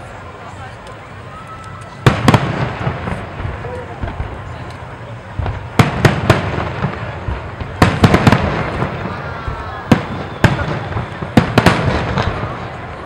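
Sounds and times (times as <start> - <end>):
continuous rumble: 0.0 - 13.0
fireworks bangs: 0.0 - 13.0.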